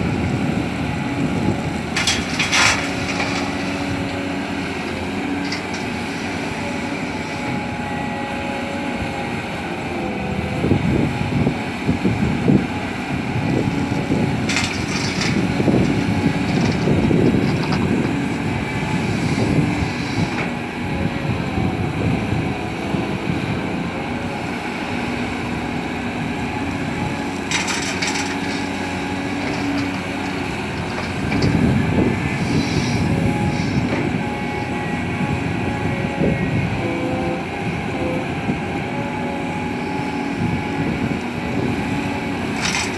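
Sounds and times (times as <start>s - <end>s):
excavator engine and hydraulics: 0.0s - 42.9s.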